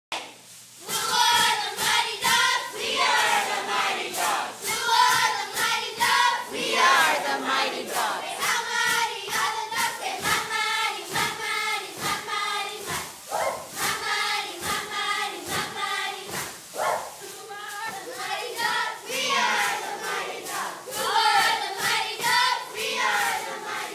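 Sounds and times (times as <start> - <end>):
sharp rhythmic hits: 0.8 - 23.8.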